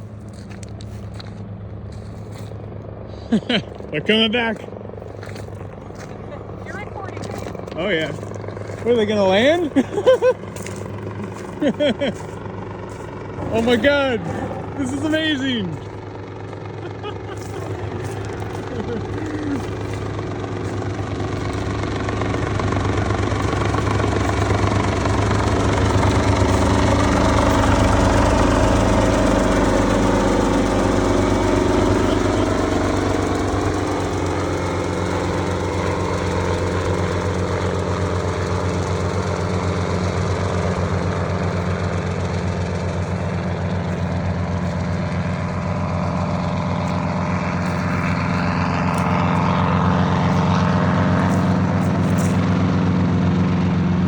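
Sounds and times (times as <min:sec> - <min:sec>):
helicopter rotor beating: 0:00.0 - 0:54.0.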